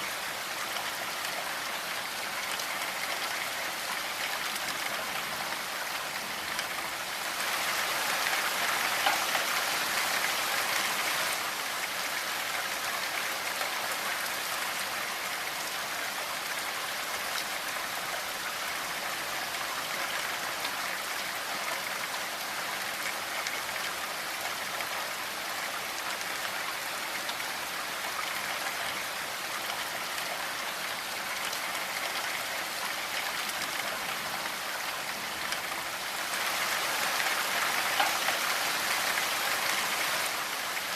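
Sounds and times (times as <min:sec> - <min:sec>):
steady rainfall hiss: 0:00.0 - 0:40.9.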